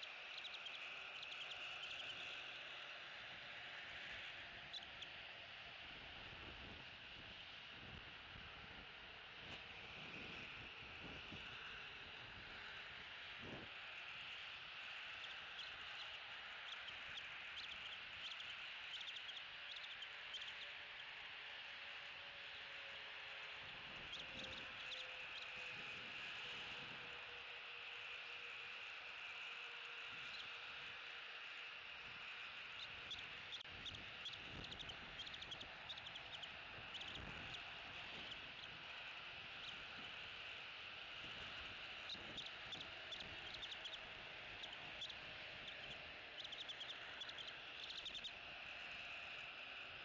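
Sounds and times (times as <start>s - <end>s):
insects ticking: 0.0s - 2.6s, 3.9s - 5.2s, 11.3s - 50.0s
eagle chicks peeping: 0.0s - 2.7s, 3.8s - 5.2s, 9.5s - 21.2s, 23.4s - 27.2s, 28.7s - 49.6s
steady hiss: 0.0s - 50.0s.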